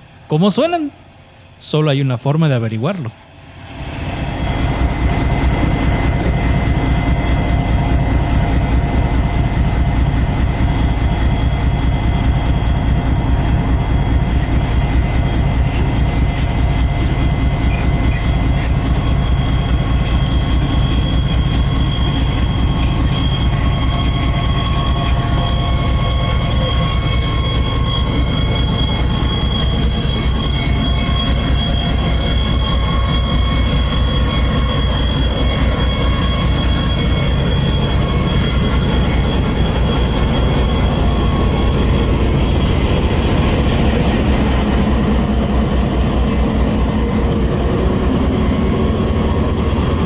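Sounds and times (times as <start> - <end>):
low train rumble: 0.0 - 50.0
electric motors whining: 3.4 - 50.0.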